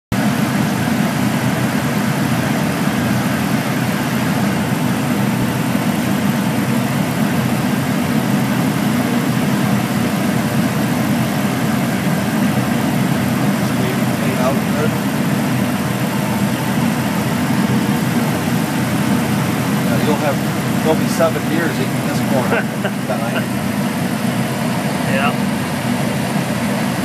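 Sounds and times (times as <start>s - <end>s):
combine harvester drone: 0.1s - 27.0s.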